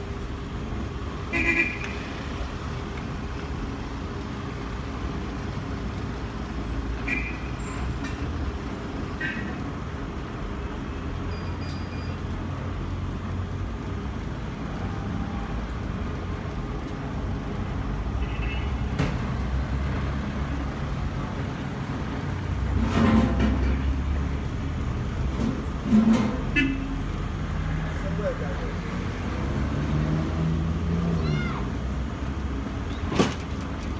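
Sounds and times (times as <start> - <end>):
street traffic rumble: 0.0 - 33.9.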